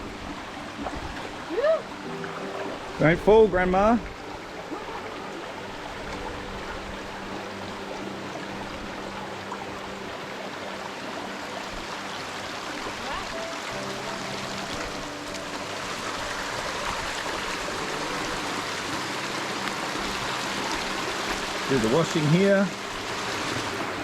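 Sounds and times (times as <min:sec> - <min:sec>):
faint sustained music notes: 0:00.0 - 0:24.0
stream running: 0:00.0 - 0:24.0.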